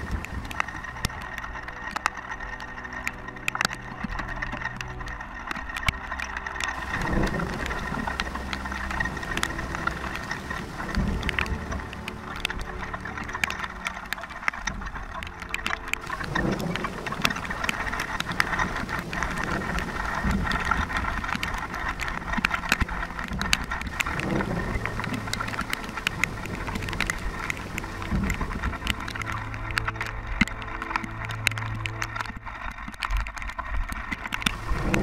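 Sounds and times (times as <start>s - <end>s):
dark slow background music: 0.0s - 35.0s
rain pattering: 0.0s - 35.0s.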